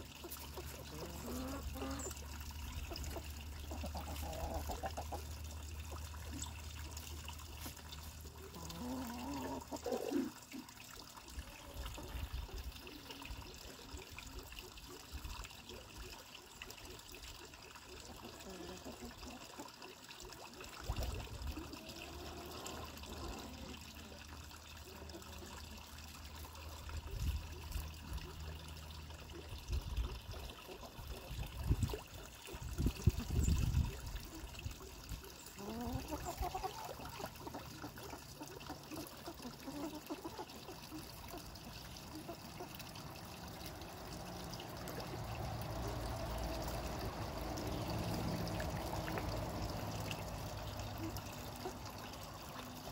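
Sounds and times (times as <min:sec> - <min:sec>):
water trickling: 0:00.0 - 0:52.9.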